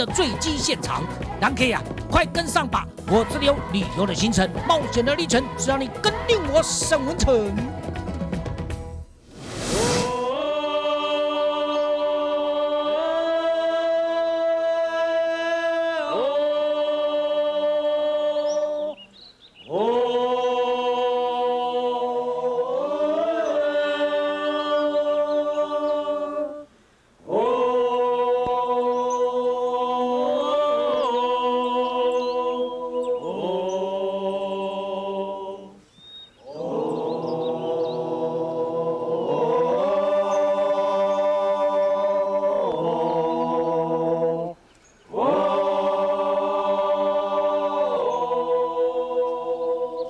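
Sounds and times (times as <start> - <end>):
group of voices chanting: 3.1 - 7.9, 9.4 - 18.7, 19.7 - 26.6, 27.2 - 35.8, 36.4 - 50.0.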